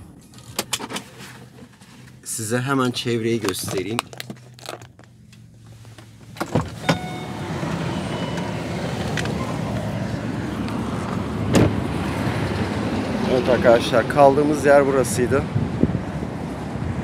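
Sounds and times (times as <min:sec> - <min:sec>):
outside traffic noise: 0:00.0 - 0:17.0.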